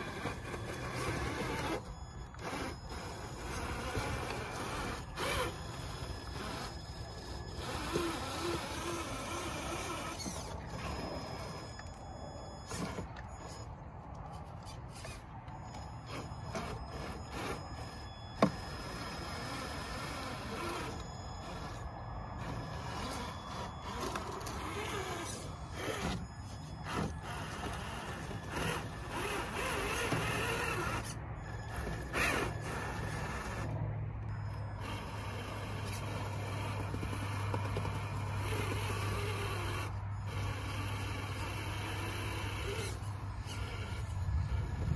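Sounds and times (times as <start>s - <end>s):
tires scraping on stone: 0.0s - 44.9s
toy car electric motor whirring: 0.0s - 44.9s.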